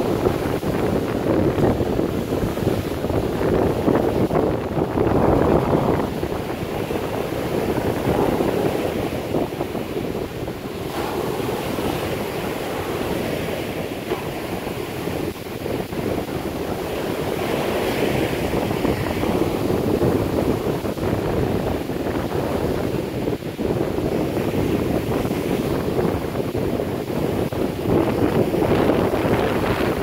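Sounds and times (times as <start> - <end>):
ocean surf breaking on beach: 0.0 - 30.0
wind buffeting microphone: 0.0 - 30.0.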